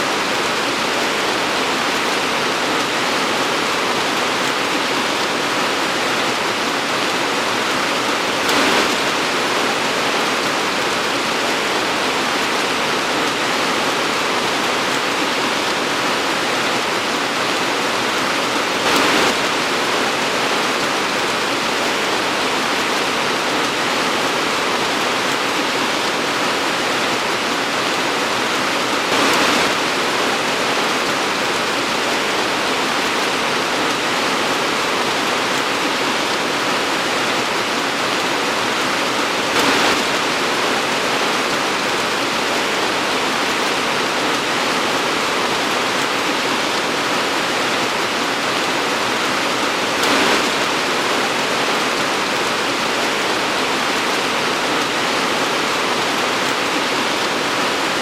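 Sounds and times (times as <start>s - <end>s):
torrential rain pouring: 0.0s - 58.0s.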